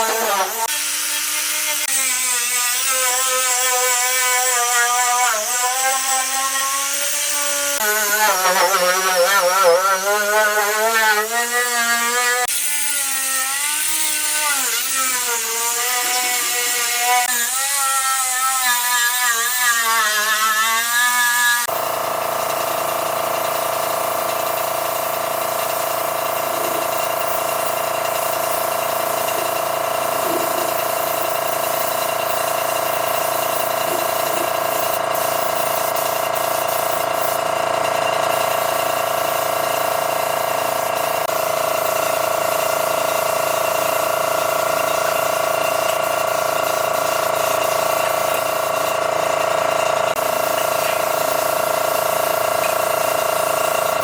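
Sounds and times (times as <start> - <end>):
power tool running: 0.0 - 54.0.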